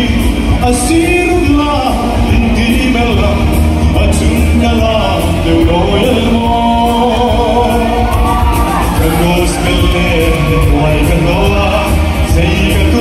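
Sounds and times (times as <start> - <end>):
amplified backing music with bass: 0.0 - 13.0
man singing into microphone: 0.0 - 13.0.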